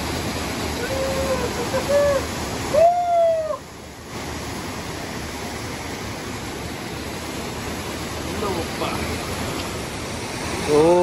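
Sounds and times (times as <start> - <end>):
waterfall rushing into a pool: 0.0 - 11.0.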